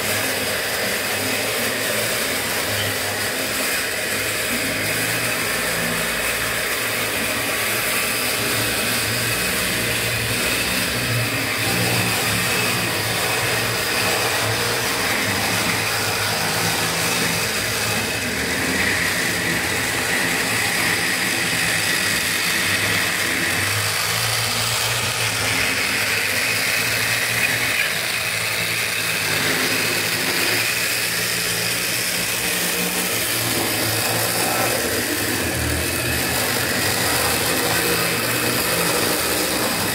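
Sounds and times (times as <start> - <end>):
diesel locomotive engine: 0.0 - 39.9.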